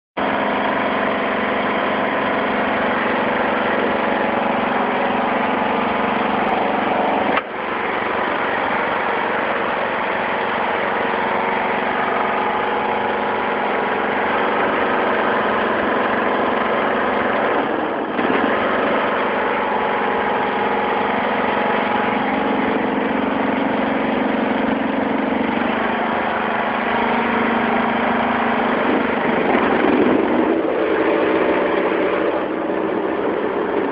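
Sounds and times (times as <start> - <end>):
lawn tractor engine running: 0.2 - 33.9.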